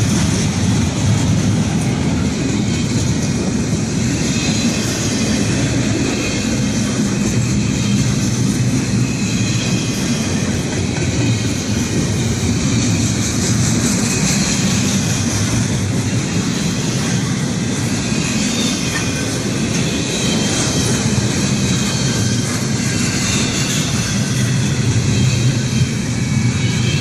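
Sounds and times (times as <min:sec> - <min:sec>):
freight train wheels rumbling: 0:00.0 - 0:27.0
high hiss from train wheels: 0:00.0 - 0:27.0.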